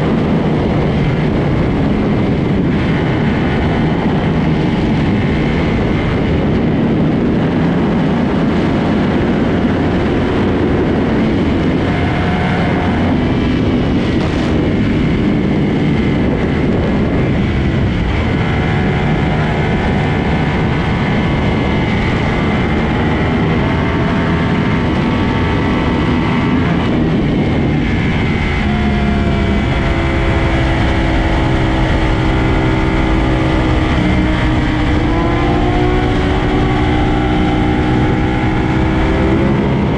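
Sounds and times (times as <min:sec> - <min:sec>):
loud steady rushing noise: 0:00.0 - 0:39.9
motorcycle engines running hard: 0:00.0 - 0:39.9.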